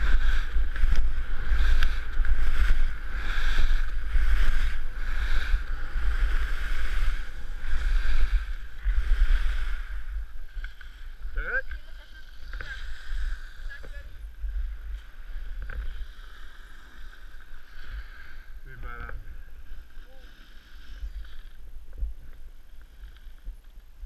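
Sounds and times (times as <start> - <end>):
skis scraping over snow: 0.0 - 23.6.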